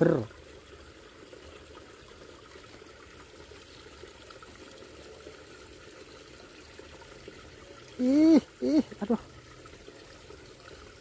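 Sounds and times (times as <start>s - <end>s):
stream trickling over rocks: 0.0s - 11.0s.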